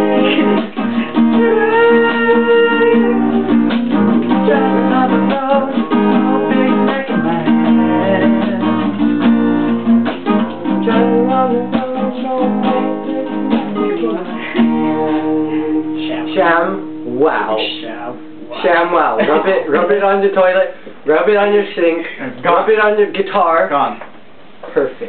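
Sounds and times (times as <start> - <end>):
acoustic guitar strumming chords: 0.0 - 20.4.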